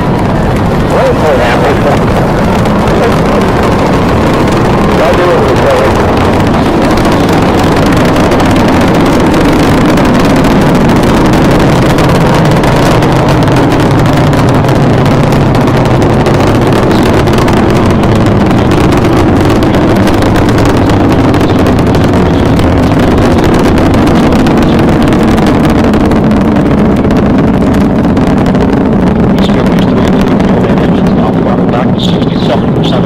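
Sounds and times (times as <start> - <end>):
rocket engines rumbling: 0.0 - 33.0.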